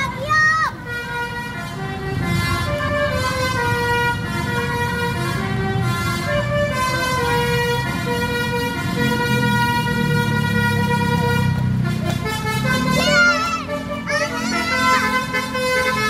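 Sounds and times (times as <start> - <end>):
bus engine rumble: 0.0 - 16.0
bus horn playing a tune: 0.8 - 16.0.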